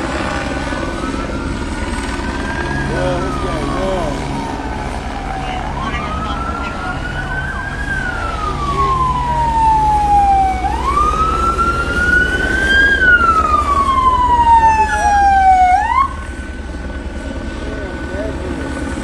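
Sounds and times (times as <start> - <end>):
police siren wailing: 0.0 - 16.9.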